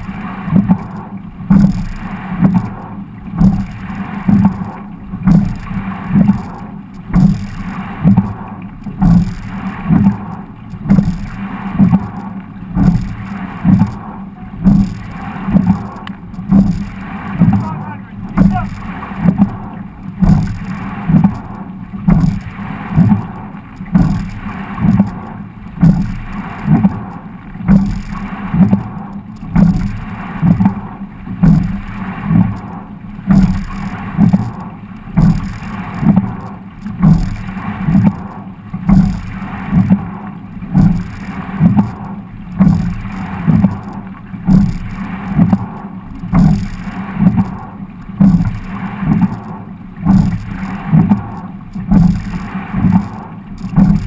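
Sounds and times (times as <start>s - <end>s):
low thuds of oars and rigging: 0.0s - 54.0s
water rushing past a hull: 0.0s - 54.0s.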